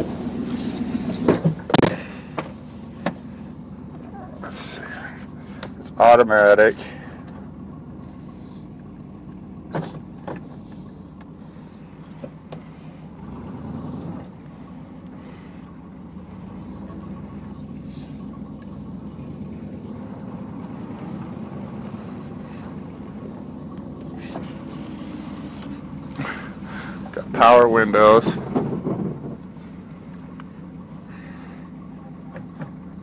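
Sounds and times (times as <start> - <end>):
pickup truck engine running: 0.0 - 33.0.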